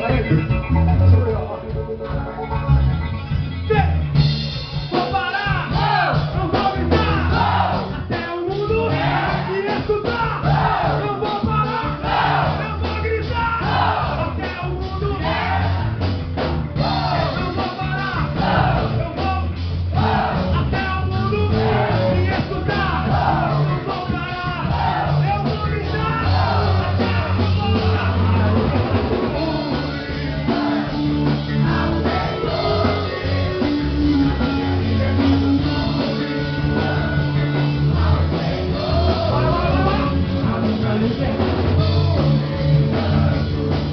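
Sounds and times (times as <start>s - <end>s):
rock band playing: 0.0s - 43.9s
steady bass line: 0.0s - 43.9s
voices singing: 5.0s - 16.1s, 16.8s - 43.9s.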